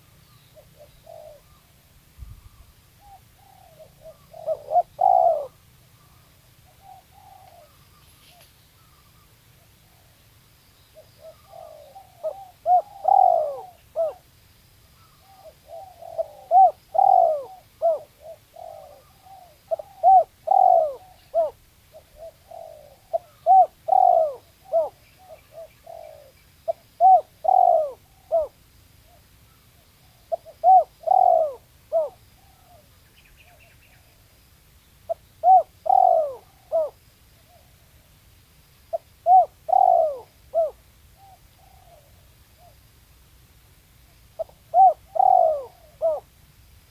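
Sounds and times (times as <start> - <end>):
dove cooing: 0.0 - 1.8, 2.4 - 10.1, 11.0 - 14.3, 15.0 - 29.3, 30.0 - 34.1, 35.1 - 38.0, 38.9 - 42.8, 44.4 - 46.3
small bird chirping: 0.0 - 37.8.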